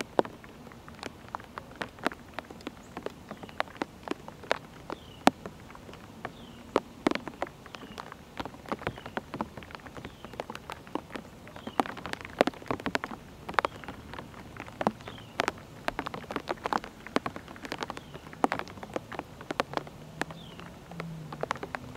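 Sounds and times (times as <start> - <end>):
raindrops tapping: 0.0 - 21.9.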